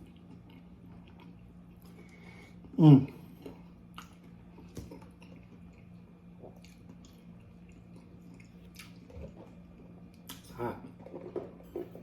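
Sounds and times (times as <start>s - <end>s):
wet chewing sounds: 0.0s - 11.5s.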